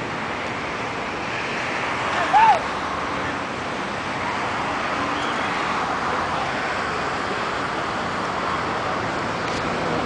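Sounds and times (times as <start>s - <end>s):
beach ambience: 0.0s - 10.0s.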